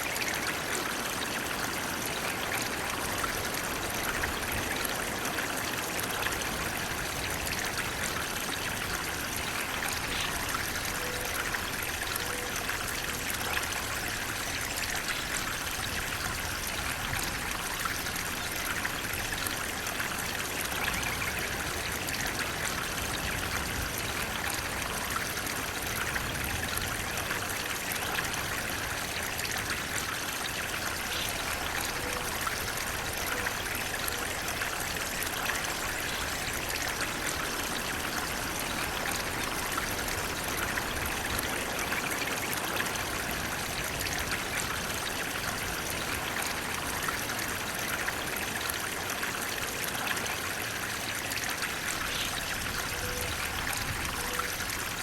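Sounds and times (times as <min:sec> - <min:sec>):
water flowing: 0:00.0 - 0:55.0.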